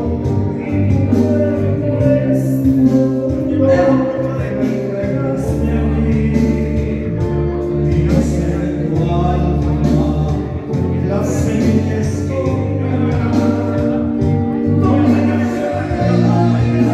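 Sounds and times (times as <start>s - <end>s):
live band with bass line: 0.0s - 16.9s
man singing: 0.0s - 16.9s.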